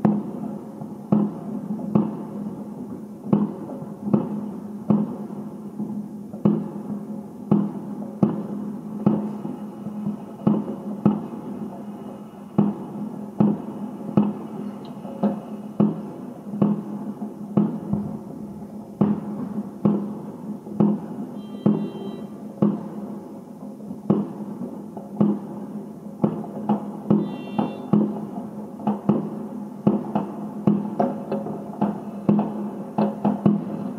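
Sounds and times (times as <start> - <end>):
fireworks bursting: 0.0 - 33.9.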